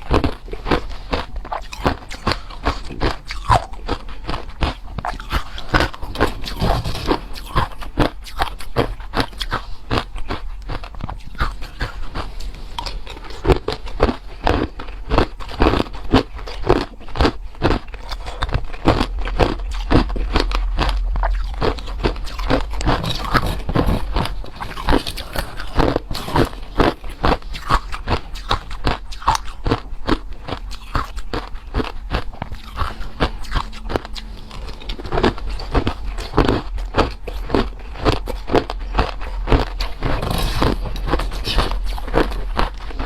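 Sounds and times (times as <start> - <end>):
person crunching ice: 0.0 - 43.0.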